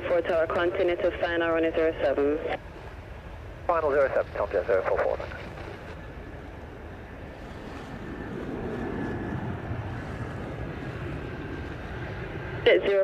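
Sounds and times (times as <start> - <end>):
jet engines whining: 0.0 - 13.0
wind: 0.0 - 13.0.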